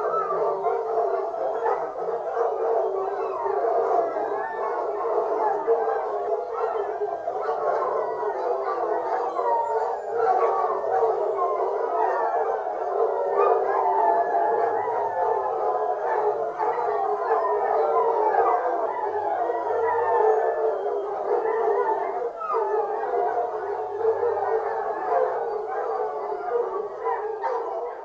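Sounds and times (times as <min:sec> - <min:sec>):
hounds howling and baying: 0:00.0 - 0:28.0.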